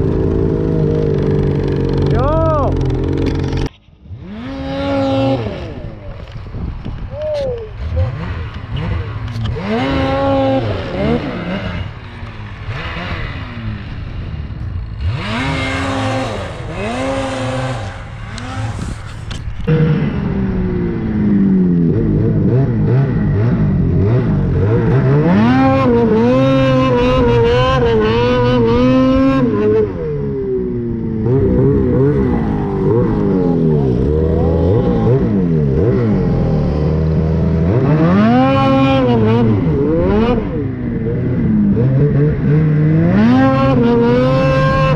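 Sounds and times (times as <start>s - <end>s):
snowmobile engine revving: 0.0s - 44.9s.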